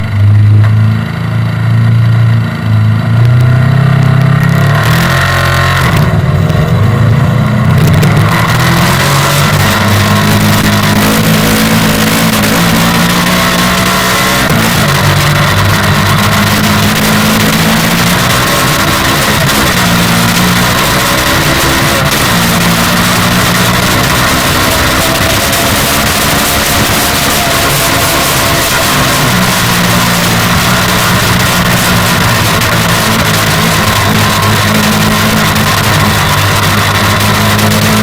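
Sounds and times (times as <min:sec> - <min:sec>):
kart engine revving: 0:00.0 - 0:38.0
loud rushing noise: 0:00.0 - 0:38.0.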